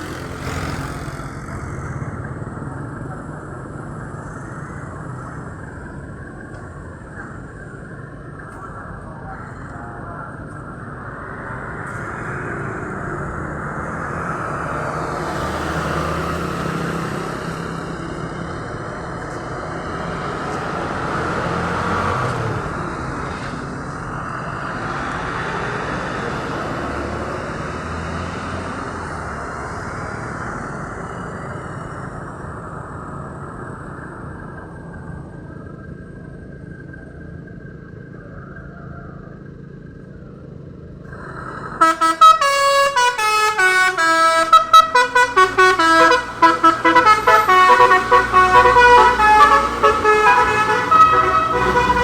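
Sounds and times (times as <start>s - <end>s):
buses moving off: 0.0s - 52.0s
road traffic passing: 0.0s - 52.0s.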